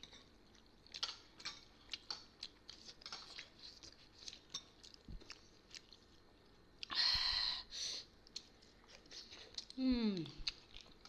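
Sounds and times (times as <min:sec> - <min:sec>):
chewing smacks: 0:00.5 - 0:06.9, 0:08.2 - 0:11.0.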